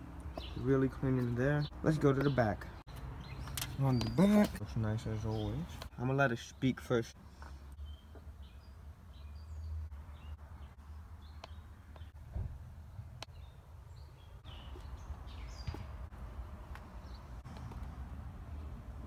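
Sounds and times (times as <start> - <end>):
small birds chirping: 0.0 - 18.8.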